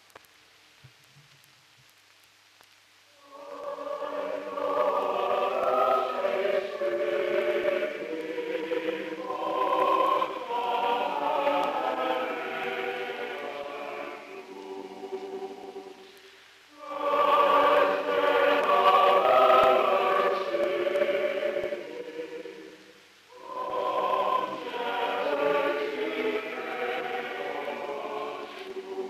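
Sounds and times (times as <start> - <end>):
church choir singing: 3.2 - 29.0.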